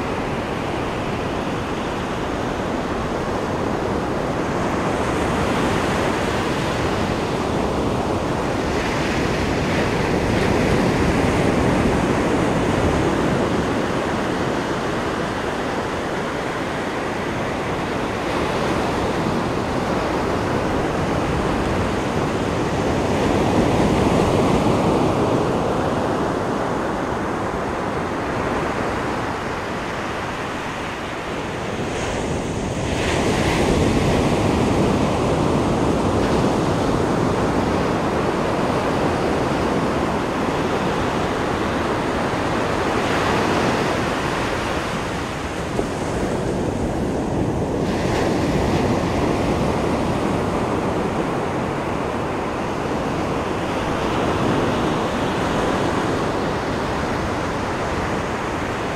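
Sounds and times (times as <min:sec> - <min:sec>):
ocean surf breaking: 0:00.0 - 0:58.9.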